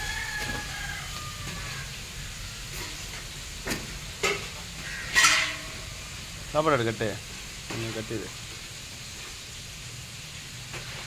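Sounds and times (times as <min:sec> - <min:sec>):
food sizzling in frying: 0:00.0 - 0:11.0.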